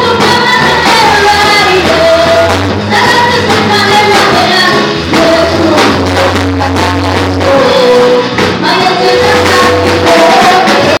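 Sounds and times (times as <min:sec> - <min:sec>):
gospel band with drums and bass: 0:00.0 - 0:11.0
woman singing into a microphone: 0:00.0 - 0:11.0.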